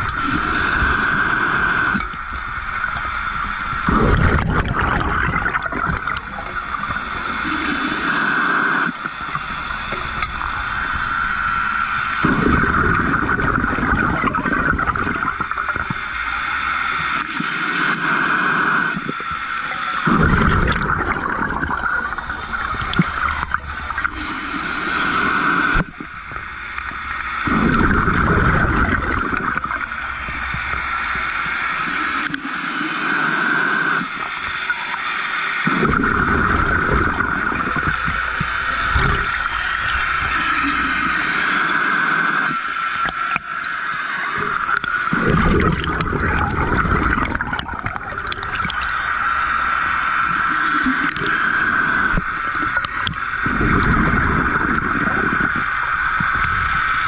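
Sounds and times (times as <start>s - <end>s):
bubbles gurgling underwater: 0.0s - 57.0s
regulator steady hiss: 0.0s - 57.0s.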